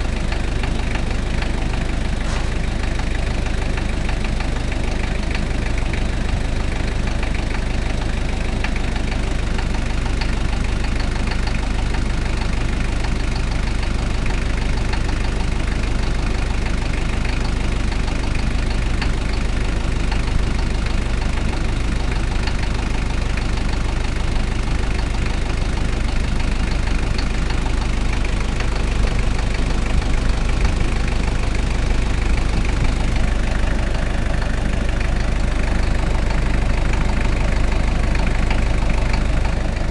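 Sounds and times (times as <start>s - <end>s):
diesel engine idling with knock: 0.0s - 39.9s.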